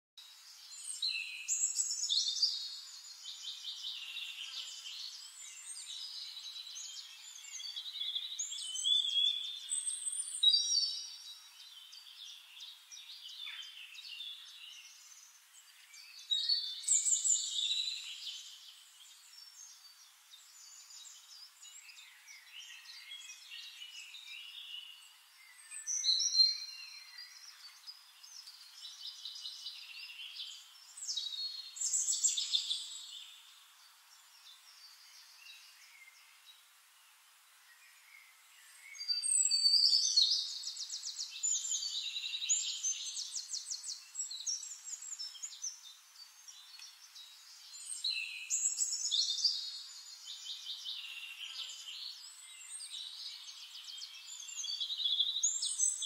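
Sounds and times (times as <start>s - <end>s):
songbirds singing: 0.2s - 56.0s.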